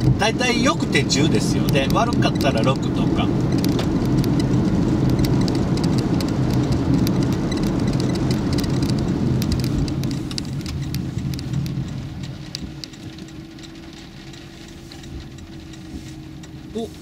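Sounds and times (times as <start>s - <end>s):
rain ticks: 0.0s - 17.0s
tyre and road rumble: 0.0s - 17.0s.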